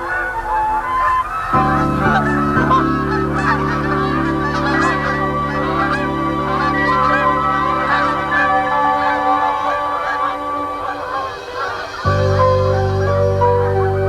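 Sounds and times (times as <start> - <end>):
geese honking: 0.0 - 14.0
low sustained music tones: 0.0 - 14.0.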